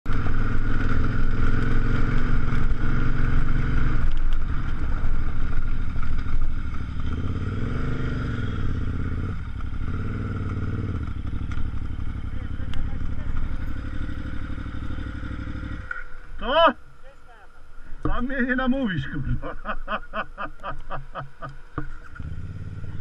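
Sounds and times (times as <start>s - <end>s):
motorcycle engine running: 0.0s - 17.2s, 18.0s - 23.0s.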